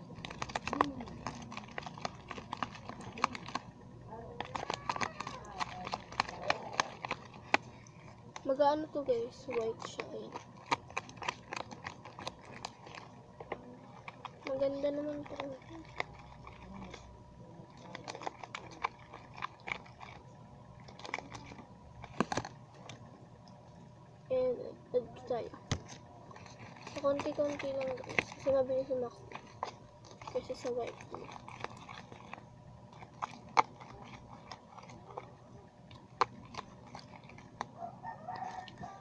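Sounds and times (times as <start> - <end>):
slime squelching and clicking: 0.0 - 23.8, 25.3 - 39.0.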